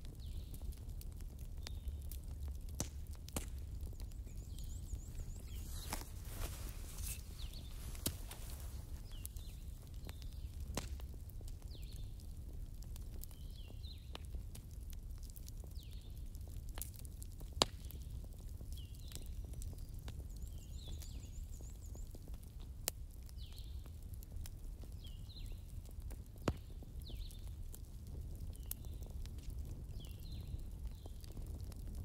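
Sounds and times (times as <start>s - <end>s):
fire popping: 0.0s - 32.0s
wood fire crackling: 0.0s - 32.0s.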